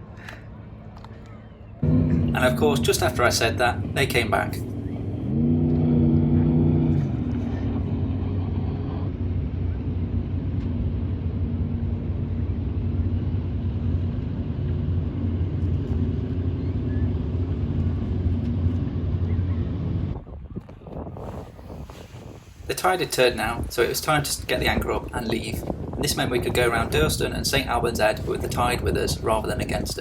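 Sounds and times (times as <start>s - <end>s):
speedboat engine running: 0.0s - 30.0s.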